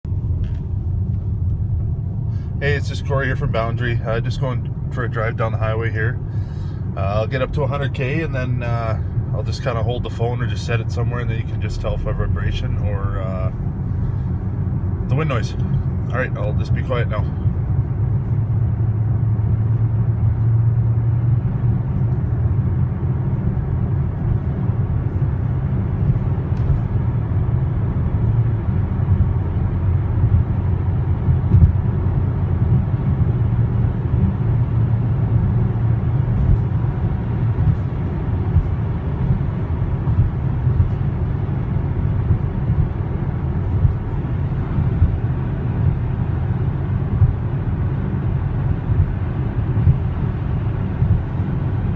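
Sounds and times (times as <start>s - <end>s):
road and tyre rumble: 0.0s - 51.9s.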